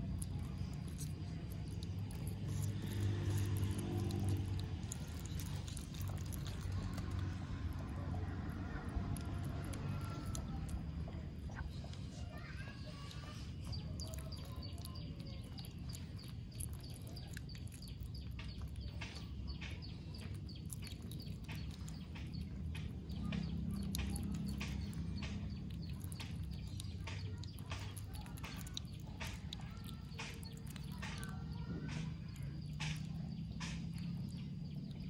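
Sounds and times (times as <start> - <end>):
crunching chewing clicks: 0.0 - 35.0.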